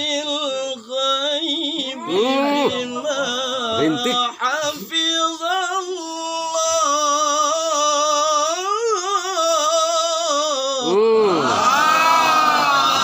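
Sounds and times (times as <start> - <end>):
man reciting melismatic chant: 0.0 - 11.6.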